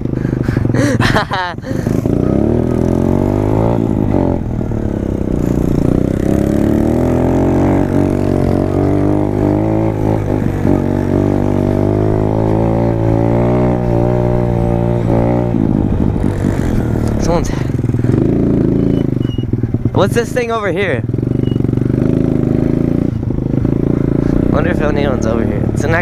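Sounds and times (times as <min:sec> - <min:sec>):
pit bike engine running: 0:00.0 - 0:26.0.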